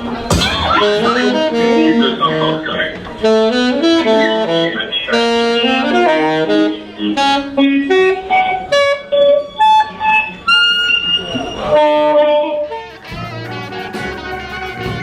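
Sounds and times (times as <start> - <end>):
ensemble playing improvised music: 0.0 - 15.0
horn lines: 0.0 - 15.0.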